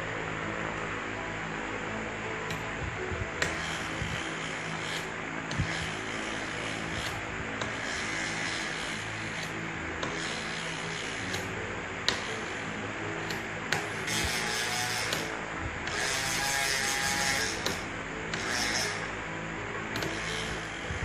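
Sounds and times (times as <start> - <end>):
electric motor whirring: 2.5 - 19.2, 19.9 - 21.0.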